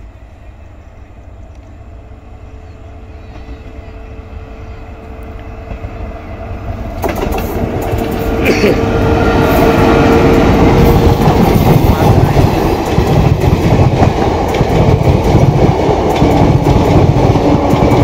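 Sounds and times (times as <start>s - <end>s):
train wheels rumbling on rail: 0.0s - 18.0s
train clattering past: 3.0s - 18.0s.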